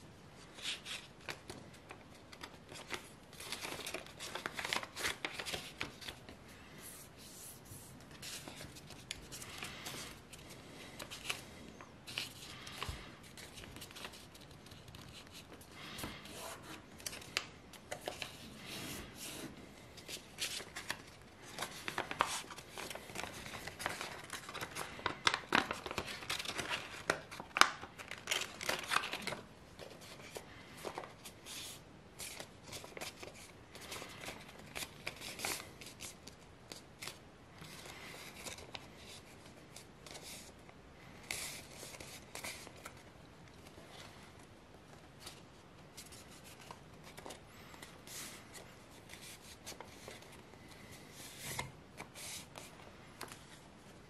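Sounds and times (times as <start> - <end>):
paper rustling and crinkling: 0.4 - 54.0.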